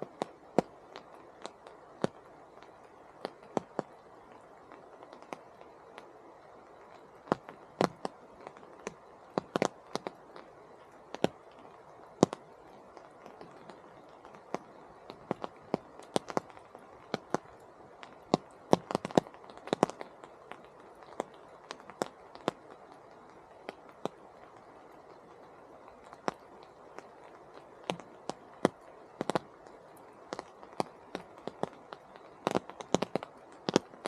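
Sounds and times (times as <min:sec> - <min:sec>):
large raindrops tapping: 0:00.0 - 0:34.0
steady rain hiss: 0:00.0 - 0:34.0.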